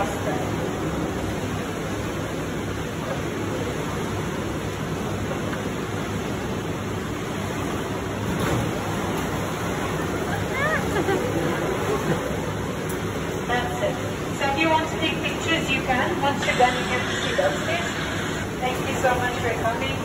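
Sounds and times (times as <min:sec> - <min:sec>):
churning water rushing: 0:00.0 - 0:20.0.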